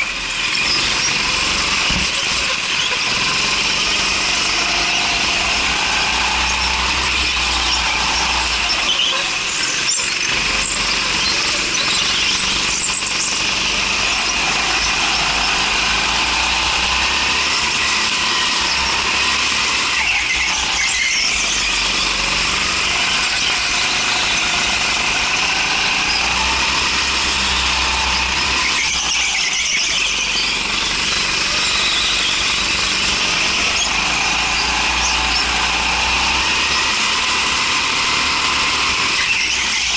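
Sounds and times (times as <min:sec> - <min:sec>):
go-kart engine running hard: 0:00.0 - 0:39.9
tyres squealing on concrete: 0:00.0 - 0:39.9.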